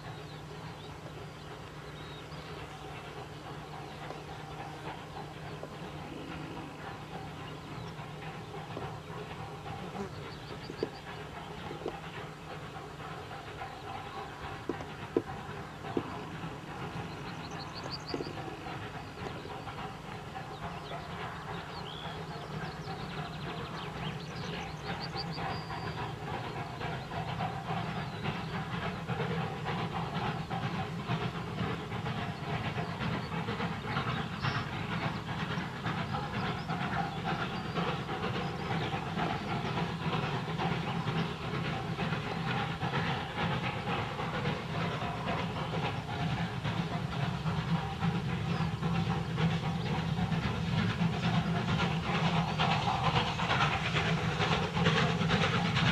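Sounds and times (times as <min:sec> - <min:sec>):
steam locomotive chuffing: 0:00.0 - 0:55.9
train rumble: 0:00.0 - 0:55.9.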